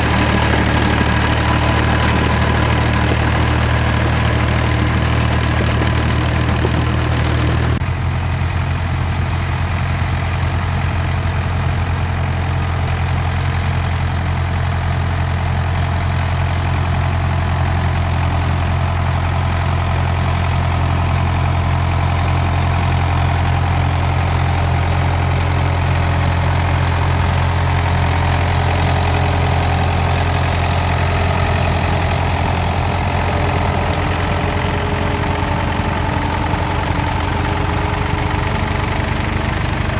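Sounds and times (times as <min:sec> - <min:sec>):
tractor engines running under load: 0:00.0 - 0:39.9.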